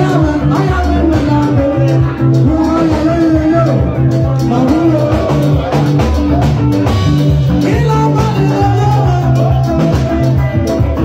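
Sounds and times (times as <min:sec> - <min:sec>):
live dance band music: 0:00.0 - 0:11.0.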